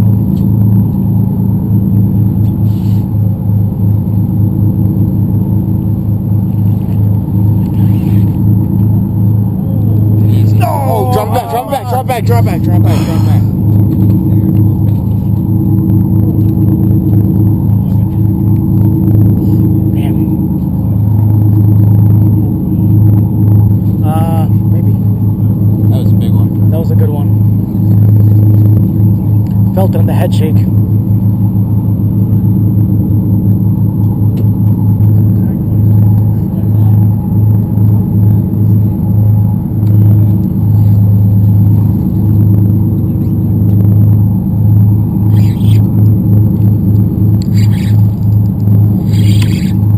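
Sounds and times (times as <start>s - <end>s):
boat engine throbbing hum: 0.0s - 49.9s.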